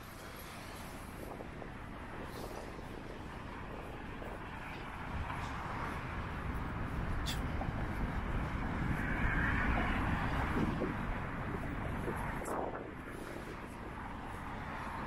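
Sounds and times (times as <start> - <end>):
steady road traffic: 0.0 - 15.0
vehicle passing: 0.0 - 15.0.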